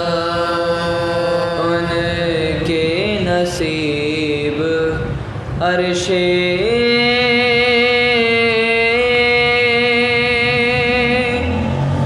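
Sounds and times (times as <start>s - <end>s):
man chanting without instruments: 0.0s - 11.8s.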